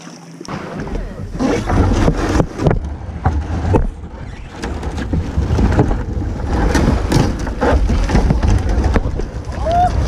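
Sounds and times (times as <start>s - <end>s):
knocks and scrapes against kayak: 0.1s - 10.0s
wind rumbling on microphone: 0.5s - 10.0s.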